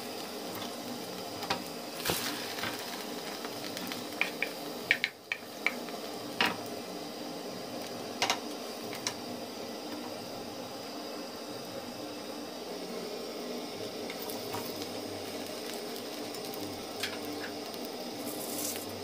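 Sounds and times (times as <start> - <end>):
omelette sizzling in a frying pan: 0.0 - 19.0.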